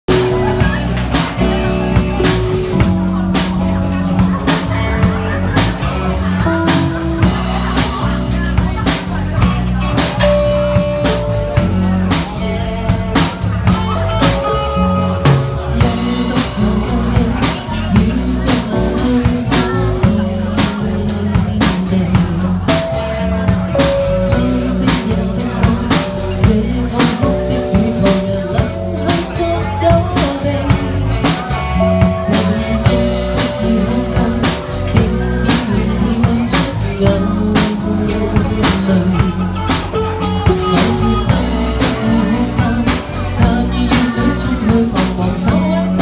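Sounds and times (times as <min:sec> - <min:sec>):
bass line: 0:00.0 - 0:46.0
pop band playing slow song: 0:00.0 - 0:46.0
drum kit hits: 0:00.1 - 0:46.0
held melody notes: 0:00.1 - 0:46.0.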